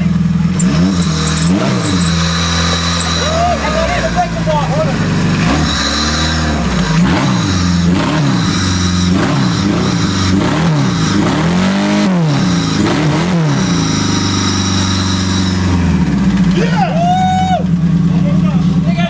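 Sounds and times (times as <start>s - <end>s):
car engine revving: 0.0s - 16.5s.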